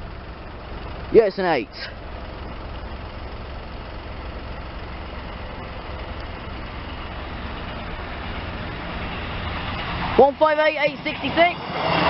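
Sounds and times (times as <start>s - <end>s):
diesel train rumbling: 0.0s - 12.0s.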